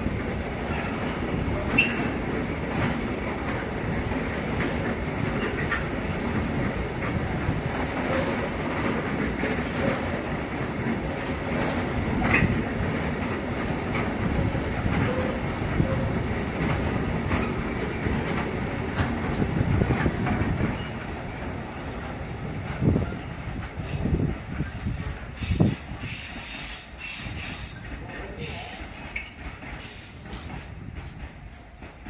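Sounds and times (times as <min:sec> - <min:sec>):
rail joint clicks: 0:00.0 - 0:32.0
train wagons rolling over rails: 0:00.0 - 0:32.0.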